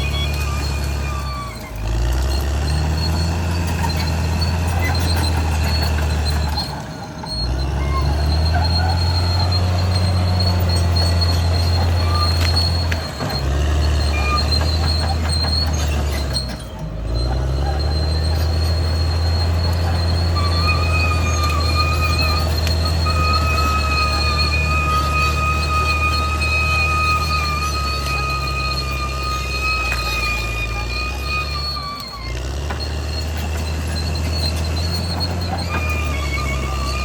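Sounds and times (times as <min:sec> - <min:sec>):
bulldozer engine droning: 0:00.0 - 0:37.0
metallic squeal of tracks: 0:00.0 - 0:37.0.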